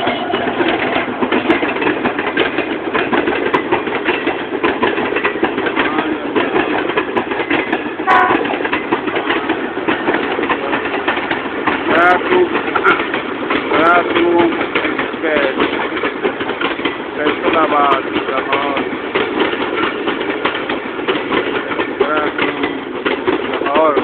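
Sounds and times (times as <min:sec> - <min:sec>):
train wheels clattering over rail joints: 0:00.0 - 0:24.0.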